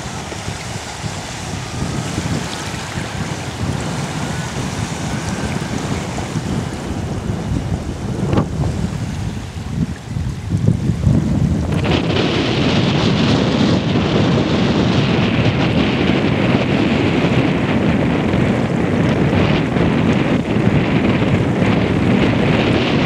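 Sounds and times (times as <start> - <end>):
wind blowing across microphone: 0.0 - 23.0.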